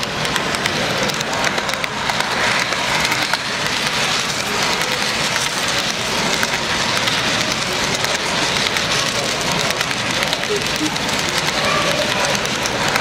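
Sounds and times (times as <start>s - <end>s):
model train wheels clattering on rail: 0.0s - 13.0s.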